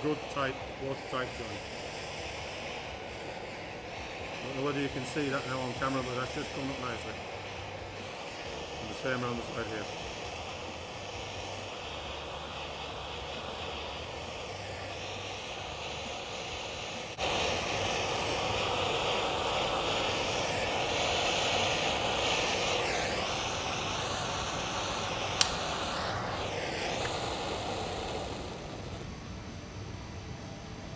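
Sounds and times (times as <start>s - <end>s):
torch flame hissing: 0.0s - 30.2s.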